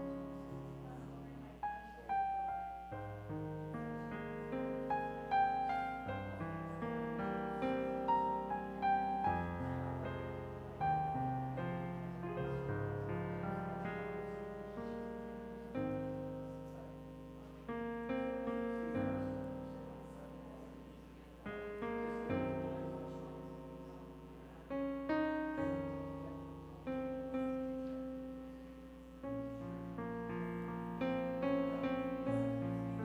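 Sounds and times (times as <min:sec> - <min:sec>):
slow solo piano music: 0:00.0 - 0:33.0.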